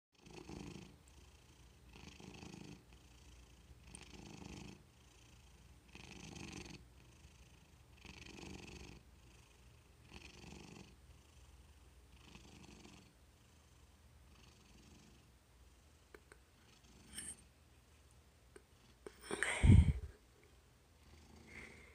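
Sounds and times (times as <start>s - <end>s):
cat purring: 0.2s - 17.5s, 18.5s - 21.9s.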